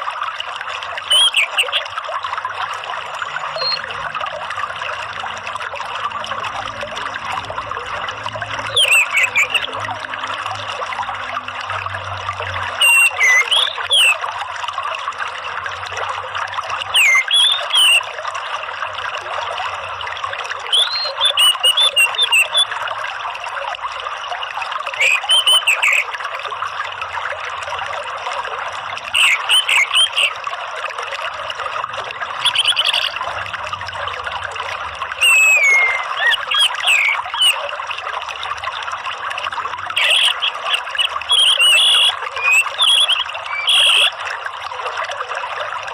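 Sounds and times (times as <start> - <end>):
trickling water: 0.0 - 45.9.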